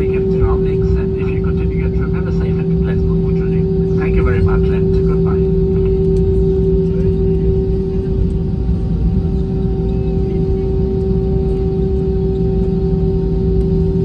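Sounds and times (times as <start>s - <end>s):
jet engines humming in cabin: 0.0s - 14.0s.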